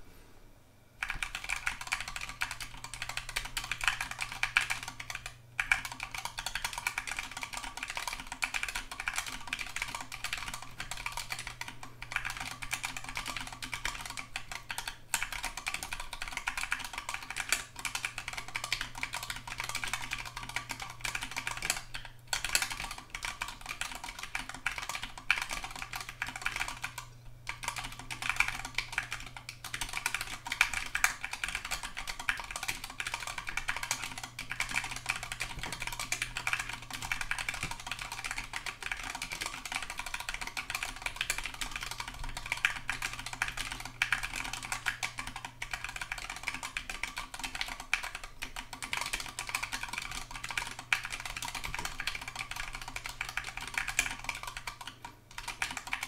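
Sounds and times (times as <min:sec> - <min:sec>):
fast typing on mechanical keyboard: 0:01.0 - 0:56.0.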